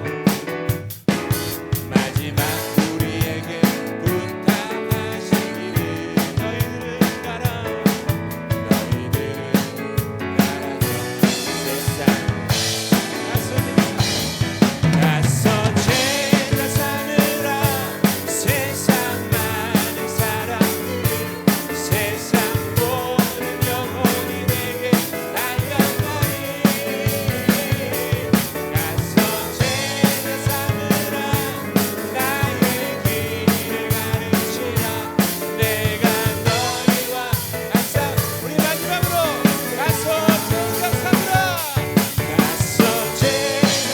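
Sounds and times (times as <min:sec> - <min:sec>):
drum kit steady beat: 0:00.0 - 0:43.9
worship band music: 0:00.0 - 0:43.9.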